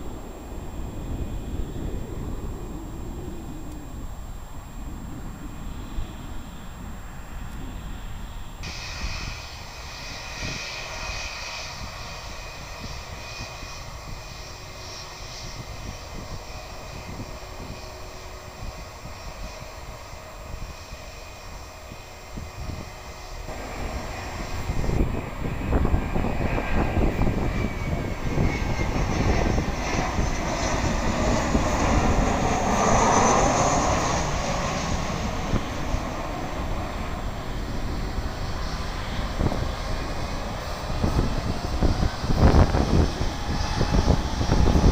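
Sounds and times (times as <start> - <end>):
airliner engines whining: 0.0 - 44.9.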